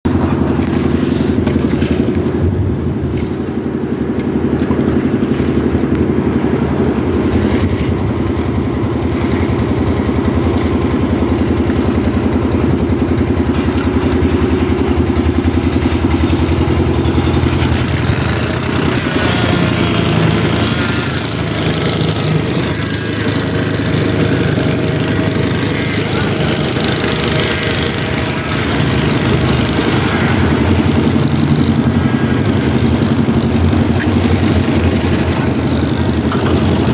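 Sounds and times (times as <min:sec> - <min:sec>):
engine running steadily: 0:00.0 - 0:36.9.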